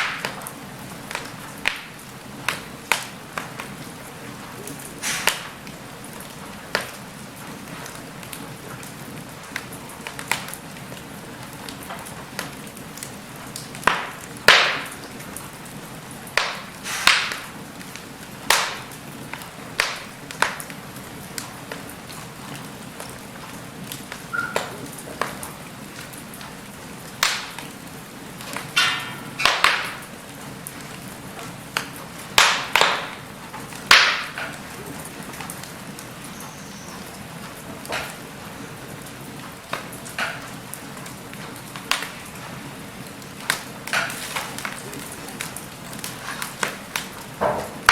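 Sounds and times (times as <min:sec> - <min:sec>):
log fire hissing and crackling: 0:00.0 - 0:47.9.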